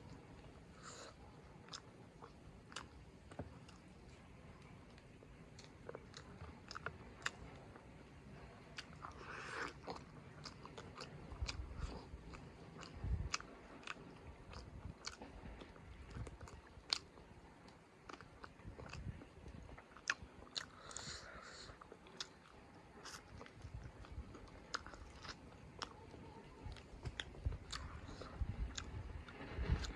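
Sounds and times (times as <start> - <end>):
person chewing food: 0.0 - 29.9.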